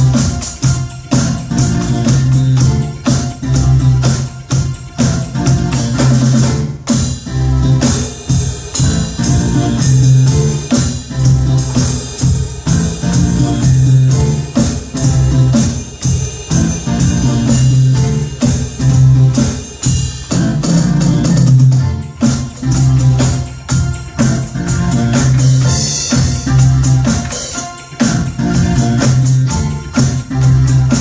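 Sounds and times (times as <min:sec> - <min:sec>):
drum kit playing a beat: 0:00.0 - 0:31.0
music with guitar and keyboard: 0:00.0 - 0:31.0.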